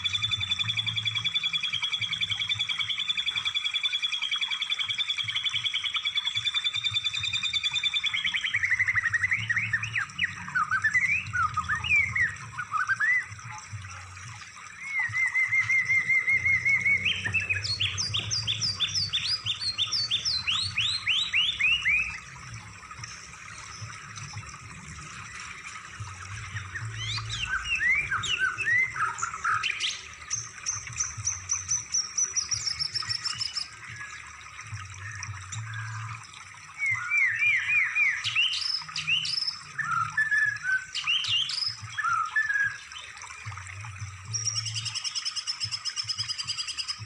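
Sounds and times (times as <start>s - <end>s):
recorded songbird song: 0.0s - 47.0s.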